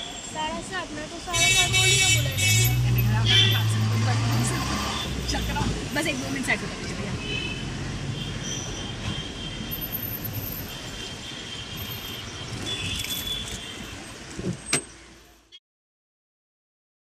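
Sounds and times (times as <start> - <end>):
vehicle rumbling: 0.0 - 15.3.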